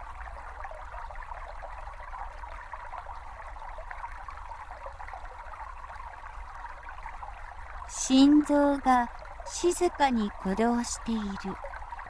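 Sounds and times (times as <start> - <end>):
brook babbling over stones: 0.0 - 12.0.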